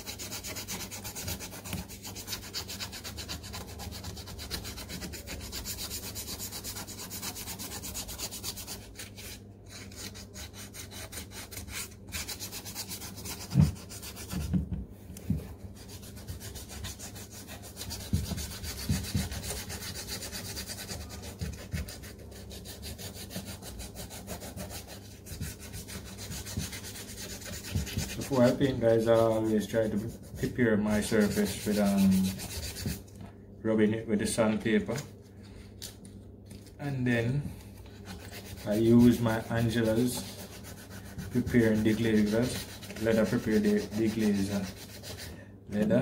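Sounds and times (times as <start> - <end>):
sandpaper rubbing on leather: 0.0 - 14.5, 15.8 - 33.0, 37.9 - 45.3.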